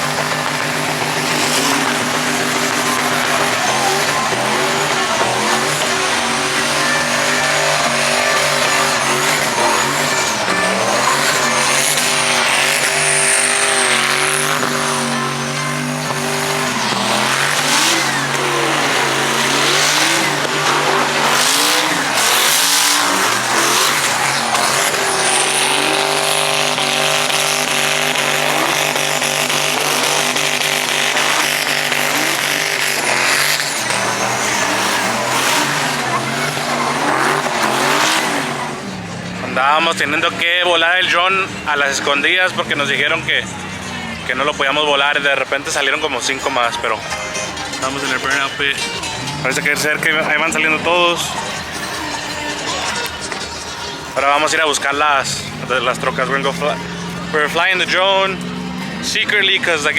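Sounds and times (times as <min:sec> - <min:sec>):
truck engines revving: 0:00.0 - 0:59.9
tyres squealing: 0:00.0 - 0:59.9.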